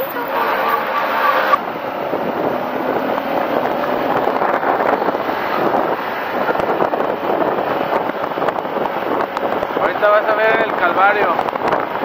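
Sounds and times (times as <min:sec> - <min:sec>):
motorcycle running: 0:01.6 - 0:12.0
wind rushing over microphone: 0:01.6 - 0:12.0.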